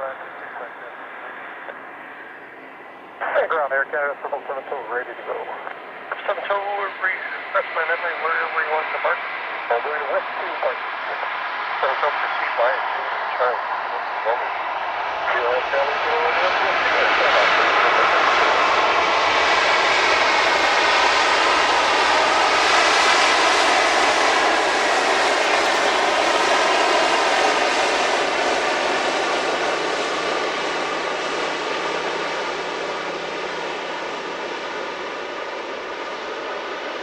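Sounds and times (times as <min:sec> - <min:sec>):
jet airliner engines roaring: 0:00.0 - 0:37.0.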